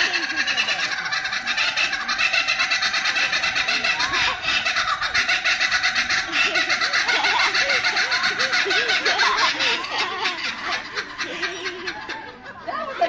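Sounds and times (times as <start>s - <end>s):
kookaburra laughing call: 0.0s - 13.0s.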